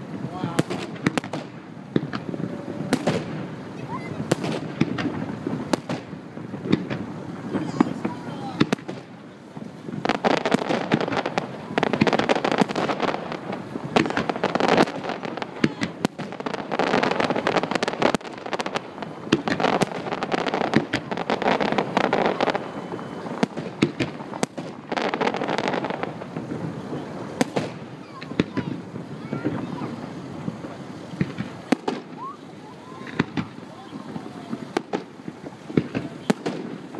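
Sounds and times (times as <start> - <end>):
firework bangs and crackles: 0.0 - 36.9.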